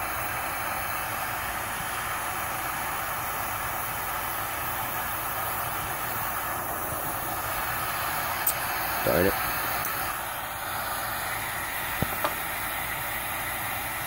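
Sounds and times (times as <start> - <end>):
torch burner hissing: 0.0 - 14.0.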